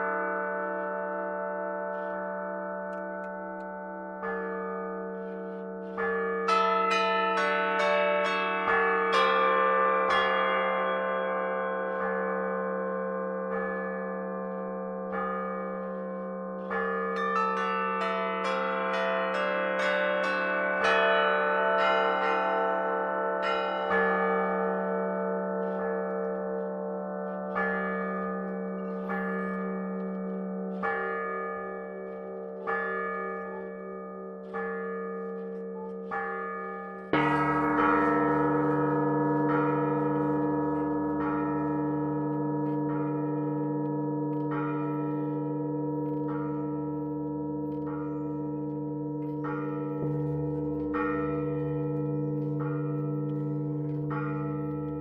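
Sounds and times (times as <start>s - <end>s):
large low bell ringing: 0.0s - 55.0s
small church bells ringing: 0.0s - 55.0s.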